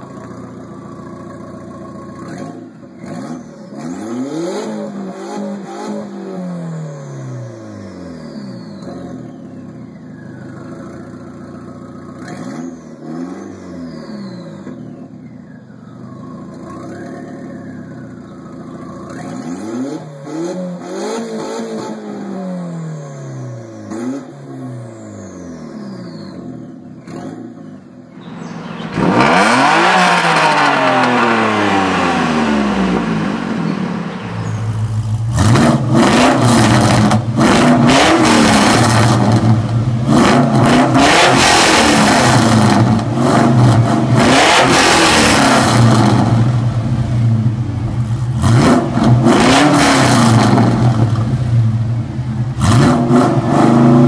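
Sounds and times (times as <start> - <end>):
car engine revving in blips: 1.9 - 9.5, 11.8 - 54.0
loud car engine revving hard: 2.2 - 9.3, 12.2 - 14.8, 19.1 - 26.4, 27.0 - 54.0.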